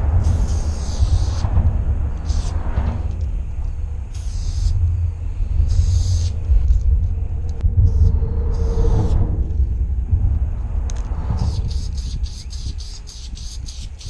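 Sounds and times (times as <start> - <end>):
spray paint can hissing: 0.0 - 9.2, 10.9 - 14.0
low rumble: 0.0 - 14.0.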